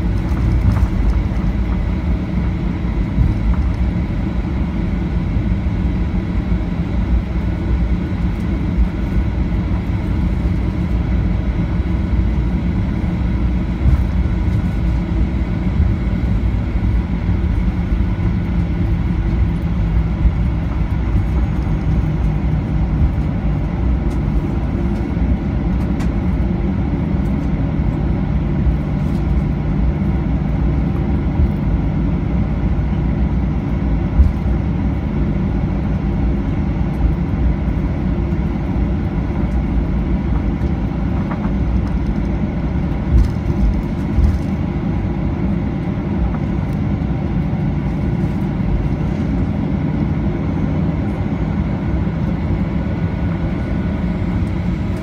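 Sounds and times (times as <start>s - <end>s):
jet engines idling in cabin: 0.0s - 55.0s.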